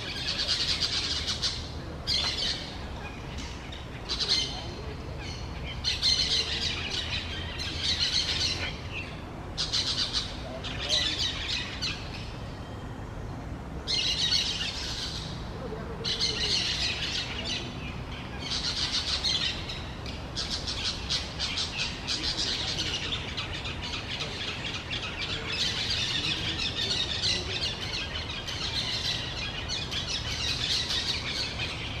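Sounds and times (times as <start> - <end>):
parakeets chattering: 0.0 - 12.3, 13.9 - 32.0.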